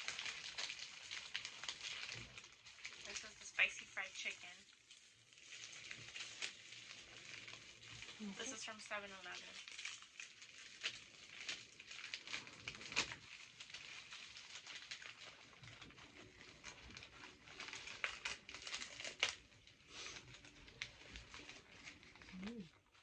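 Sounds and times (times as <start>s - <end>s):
food packaging crinkling: 0.0s - 23.0s.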